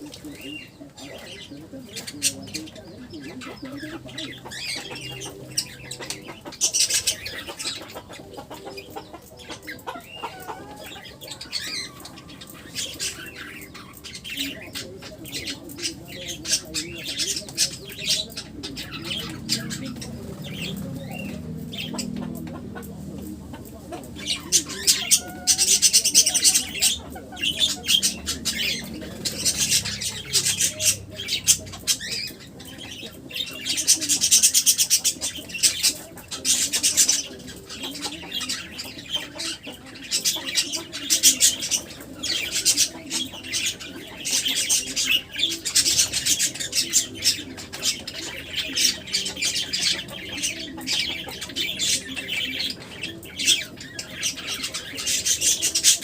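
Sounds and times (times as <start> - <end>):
birds squawking and chattering: 0.0 - 56.0.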